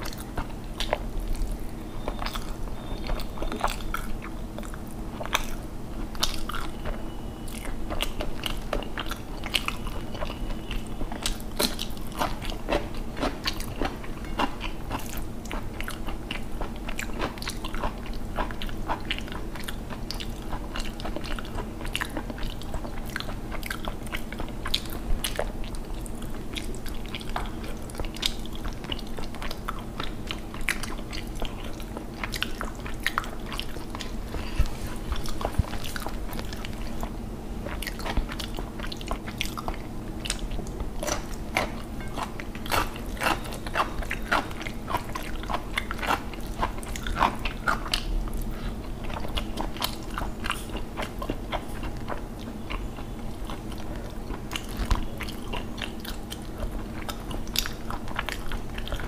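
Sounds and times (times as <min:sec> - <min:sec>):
chewing and crunchy bites: 0:00.0 - 0:59.0
steady low hum: 0:00.0 - 0:59.0.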